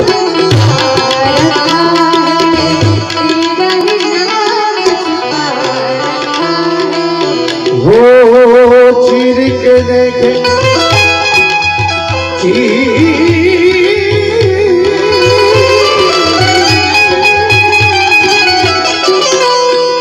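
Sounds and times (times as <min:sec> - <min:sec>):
harmonium: 0:00.0 - 0:20.0
keyboard: 0:00.0 - 0:20.0
tabla: 0:00.0 - 0:20.0.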